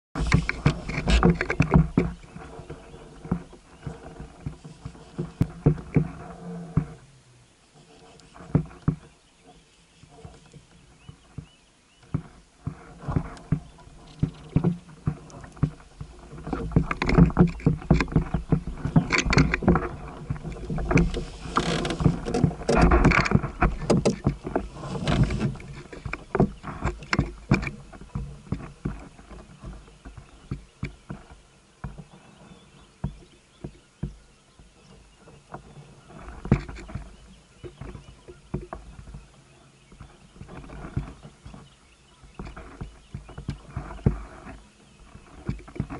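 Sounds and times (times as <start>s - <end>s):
water splashing: 0.2s - 45.9s.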